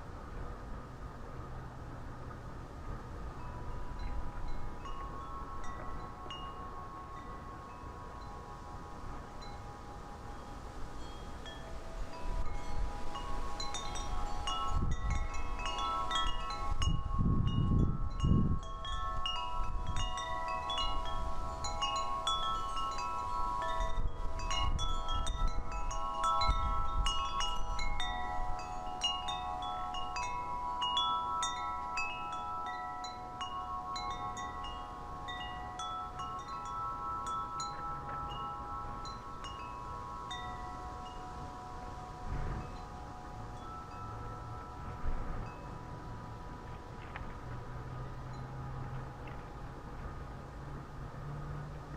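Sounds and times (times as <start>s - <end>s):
wind buffeting microphone: 0.0s - 51.9s
metal wind chimes ringing: 3.0s - 51.9s.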